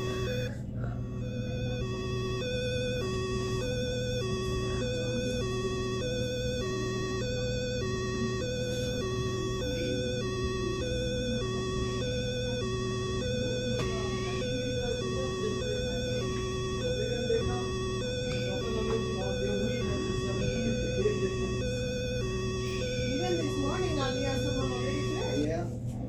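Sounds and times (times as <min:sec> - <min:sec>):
two-tone police siren: 0:00.0 - 0:25.5
steady low hum: 0:00.0 - 0:26.0.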